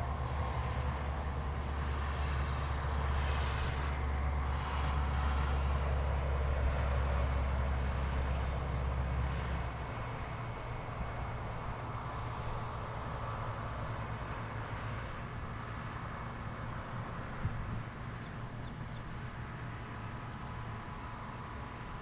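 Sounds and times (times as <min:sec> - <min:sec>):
passing tyres hiss: 0:00.0 - 0:22.0
vehicle engine rumble: 0:00.0 - 0:22.0.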